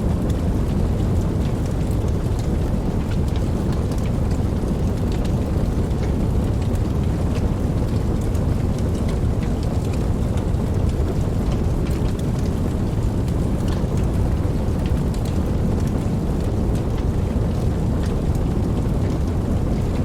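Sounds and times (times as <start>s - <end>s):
raindrop ticks: 0.0s - 20.0s
steady rain hiss: 0.0s - 20.0s.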